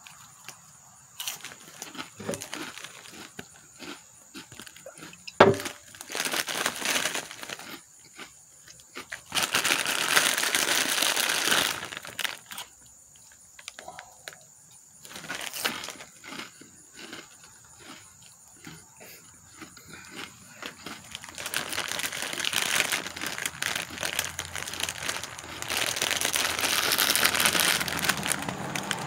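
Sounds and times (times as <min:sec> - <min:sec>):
plastic snack bag crinkling: 0:01.2 - 0:07.8, 0:09.0 - 0:12.7, 0:13.3 - 0:14.4, 0:15.0 - 0:18.0, 0:19.5 - 0:29.0.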